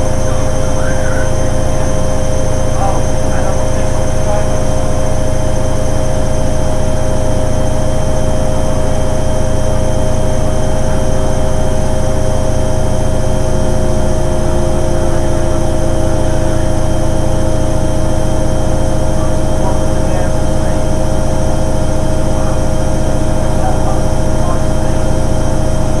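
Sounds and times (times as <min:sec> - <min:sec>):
washing machine motor hum: 0:00.0 - 0:26.0.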